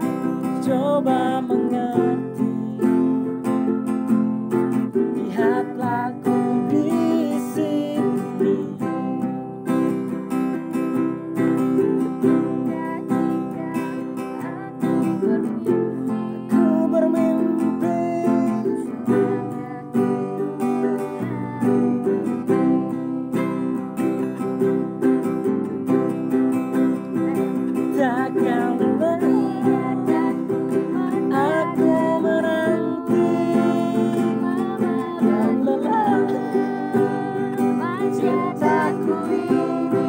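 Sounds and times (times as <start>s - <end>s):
acoustic guitar strumming: 0.0s - 40.0s
ukulele strumming: 0.0s - 40.0s.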